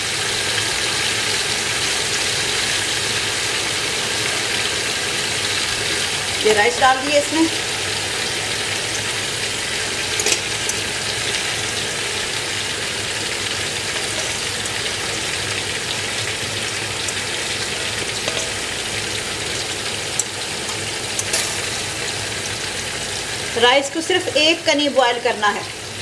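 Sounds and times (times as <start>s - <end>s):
water boiling and bubbling: 0.0s - 26.0s.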